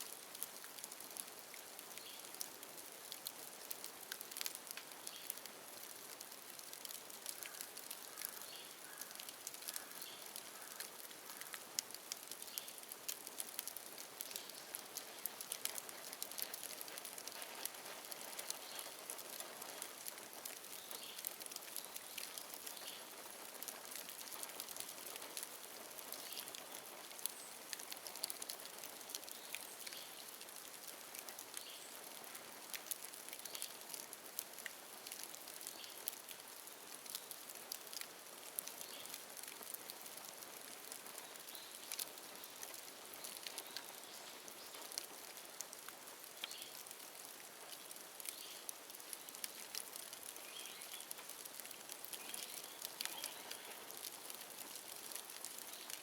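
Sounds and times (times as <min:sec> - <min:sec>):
bamboo bonfire crackling: 0:00.0 - 0:56.0.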